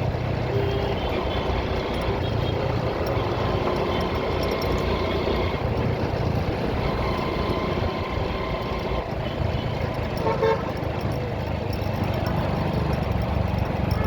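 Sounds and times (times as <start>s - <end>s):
traffic road and engine noise: 0.0s - 14.0s.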